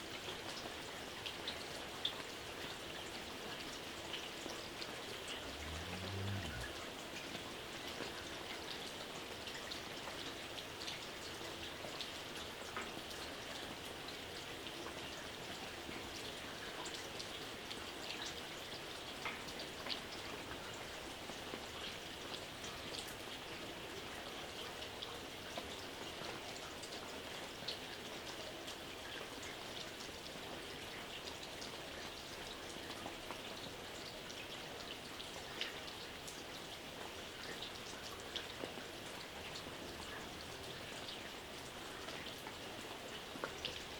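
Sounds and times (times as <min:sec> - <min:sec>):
rain falling: 0:00.0 - 0:43.9
raindrops ticking on surface: 0:00.0 - 0:43.9.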